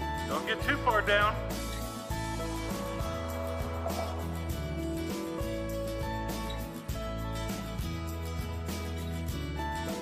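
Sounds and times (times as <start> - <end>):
bass notes: 0.0 - 10.0
plucked guitar: 1.4 - 10.0.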